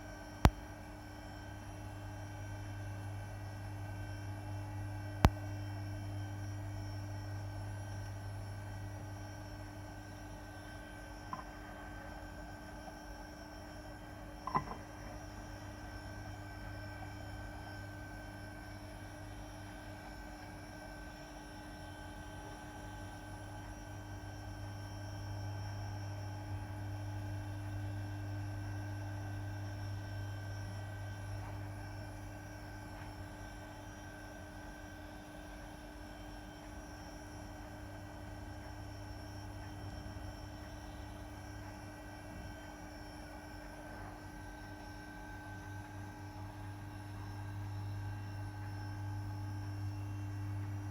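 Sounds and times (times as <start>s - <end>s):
electrical hum: 0.0s - 50.9s.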